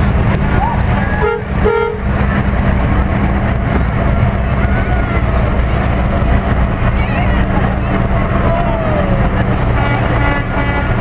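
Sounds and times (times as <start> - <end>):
tow truck engines rumbling: 0.0 - 11.0.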